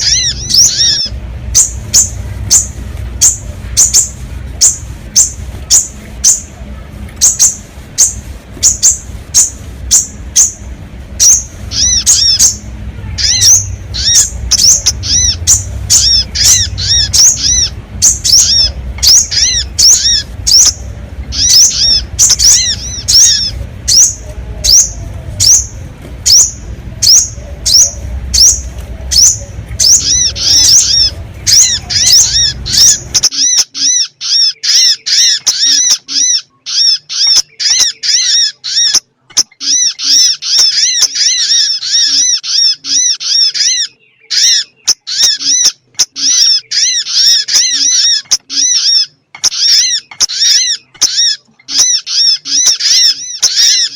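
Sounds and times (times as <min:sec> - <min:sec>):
low background rumble: 0:00.0 - 0:53.9
small birds chip calls: 0:00.0 - 0:53.9.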